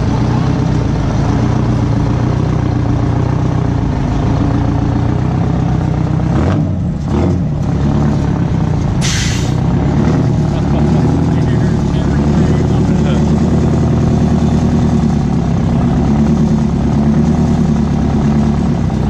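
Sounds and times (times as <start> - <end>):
diesel pickup engine running: 0.0 - 19.0.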